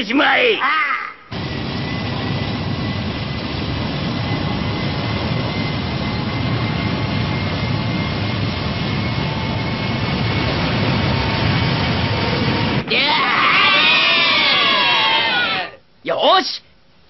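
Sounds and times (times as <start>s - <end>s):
jet-like mechanical rumble: 1.3s - 15.7s
faint high whine: 1.3s - 17.0s.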